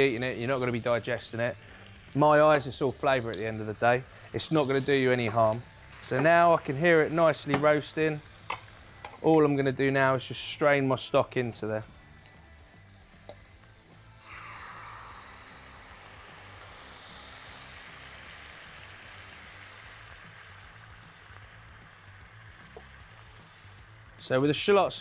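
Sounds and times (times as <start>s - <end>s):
stock sizzling in hot pan: 0.0s - 25.0s.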